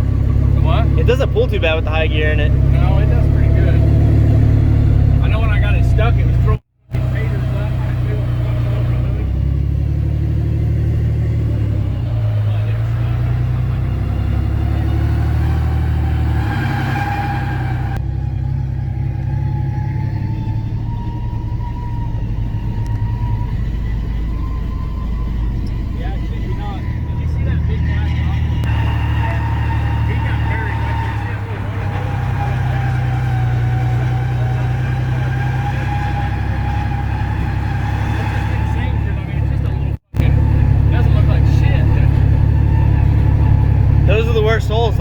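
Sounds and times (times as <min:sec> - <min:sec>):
truck engine drone: 0:00.0 - 0:45.0.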